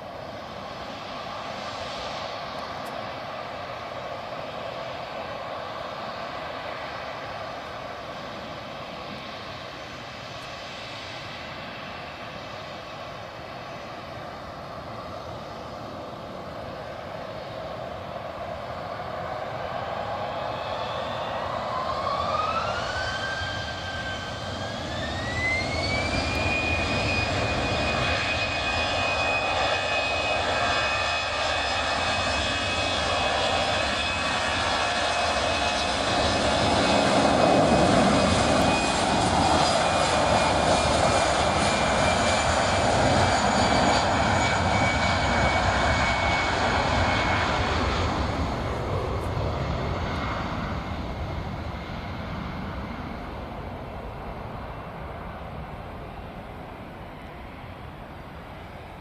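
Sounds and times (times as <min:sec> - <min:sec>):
jet engine rumble: 0:00.0 - 0:59.0
jet engine whine: 0:00.0 - 0:59.0.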